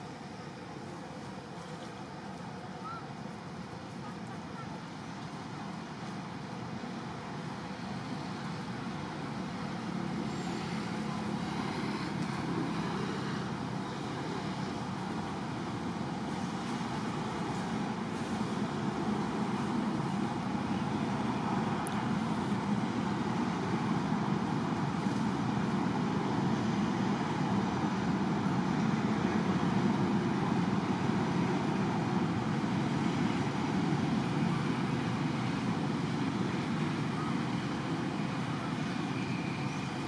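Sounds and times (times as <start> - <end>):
steady background noise: 0.0 - 40.0.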